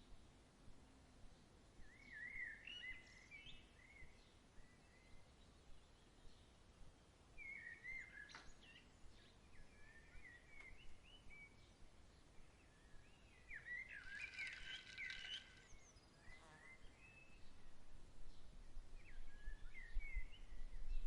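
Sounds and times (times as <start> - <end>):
songbirds singing: 1.3 - 21.0.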